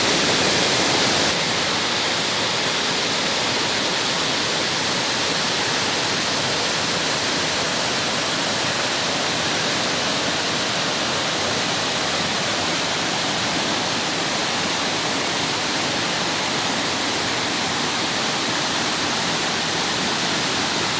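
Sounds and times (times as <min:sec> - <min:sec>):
fast water rushing: 0:00.0 - 0:20.9.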